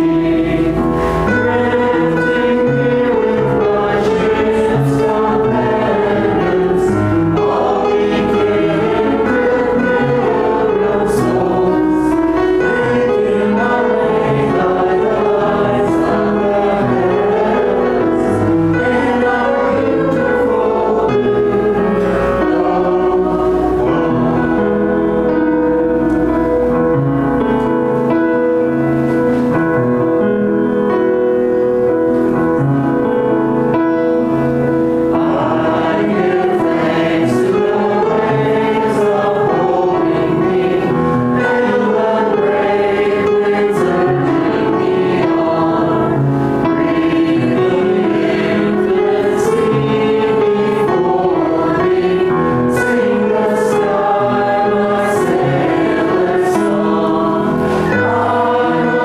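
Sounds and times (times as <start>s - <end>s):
choir singing a hymn: 0.0s - 59.0s
keyboard chords: 0.0s - 59.0s.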